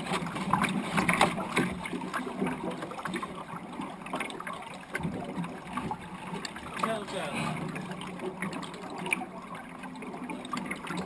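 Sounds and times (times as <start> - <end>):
water lapping against wooden hull: 0.0 - 11.0.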